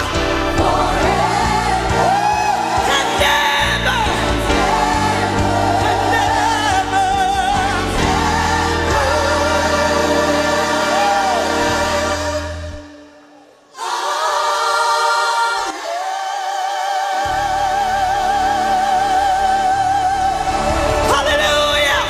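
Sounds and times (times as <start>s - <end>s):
bass and keyboards: 0.0s - 13.0s, 17.3s - 22.0s
gospel choir singing: 0.0s - 22.0s.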